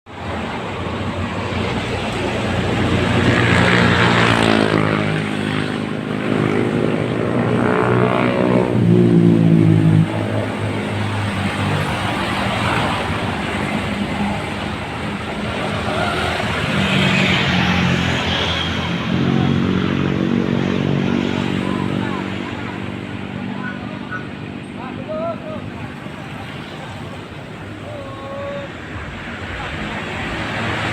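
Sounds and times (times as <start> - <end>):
heavy truck engines passing: 0.1 - 30.9.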